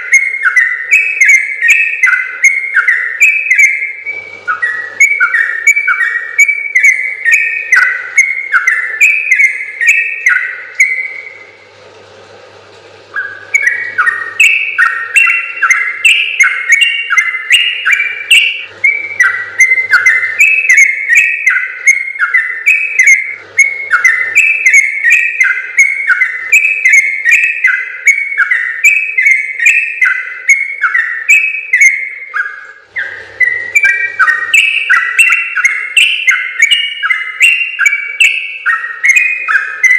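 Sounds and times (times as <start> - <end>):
bird singing whistled notes: 0.0 - 11.5, 13.1 - 39.9.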